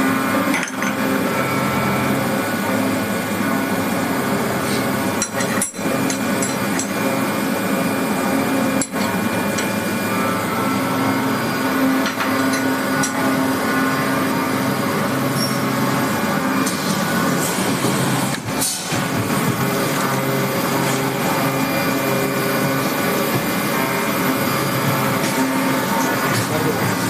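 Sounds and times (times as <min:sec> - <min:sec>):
machinery hum: 0:00.0 - 0:27.0.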